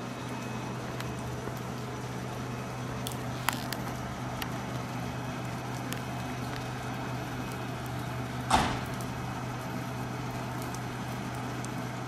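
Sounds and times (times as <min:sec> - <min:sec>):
electric train equipment humming: 0:00.0 - 0:12.0.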